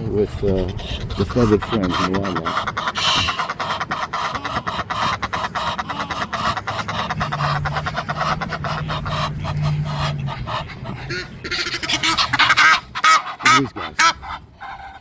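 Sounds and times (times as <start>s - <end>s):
geese and ducks chattering: 0.0s - 15.0s
low steady hum: 0.0s - 15.0s
goose honks: 0.5s - 15.0s.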